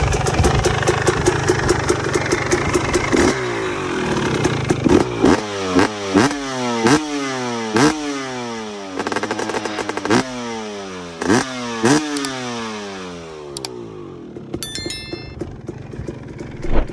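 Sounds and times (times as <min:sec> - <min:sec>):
two-stroke engine revving: 0:00.0 - 0:14.6, 0:15.3 - 0:16.9.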